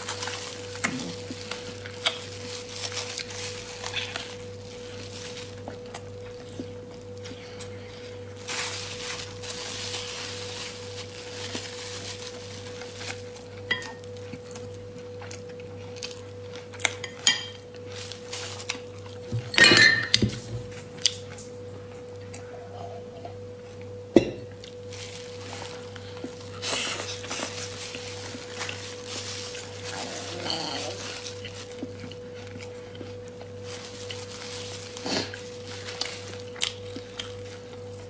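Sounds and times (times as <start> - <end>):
biting and chewing food: 0.0 - 19.5, 24.5 - 38.0
steady hum: 0.0 - 38.0.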